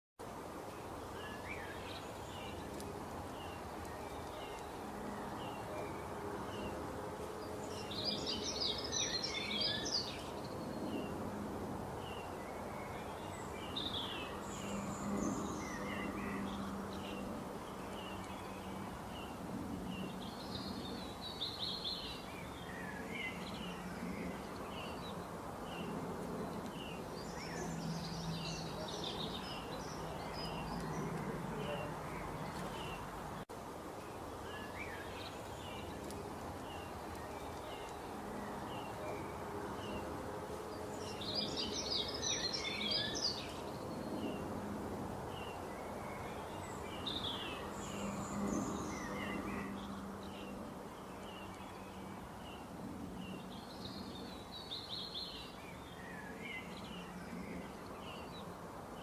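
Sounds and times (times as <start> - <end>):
small birds chirping: 0.5 - 11.3, 11.9 - 44.6, 45.2 - 59.0.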